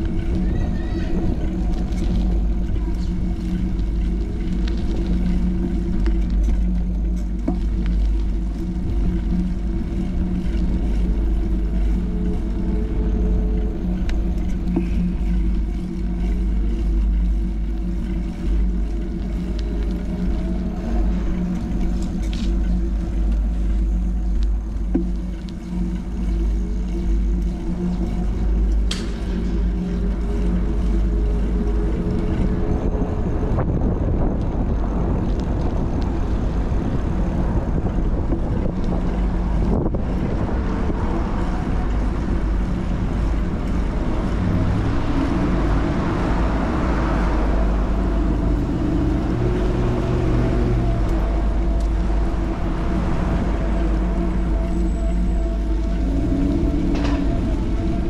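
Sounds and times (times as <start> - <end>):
low rumble: 0.0 - 58.0
motor hum: 0.0 - 58.0
wind buffeting microphone: 0.0 - 58.0.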